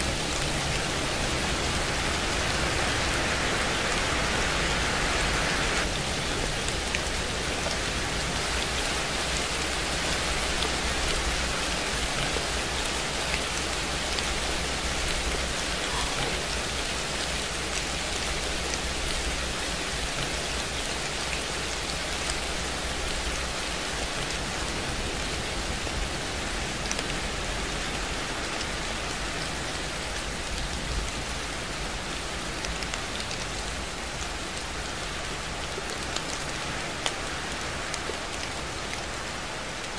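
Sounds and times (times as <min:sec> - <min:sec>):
rain drops ticking: 0:00.0 - 0:39.9
steady rain hiss: 0:00.0 - 0:39.9.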